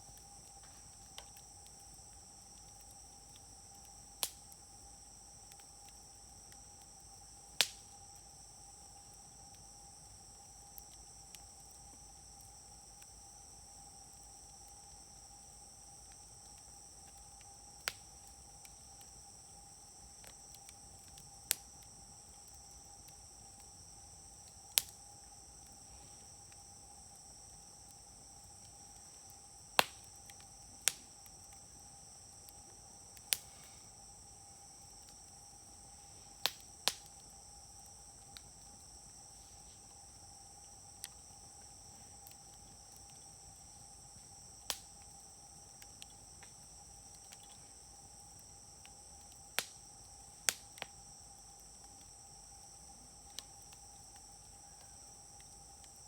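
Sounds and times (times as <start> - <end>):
campfire crackling and popping: 0.0 - 39.0, 39.9 - 56.0
insects trilling: 0.0 - 56.0.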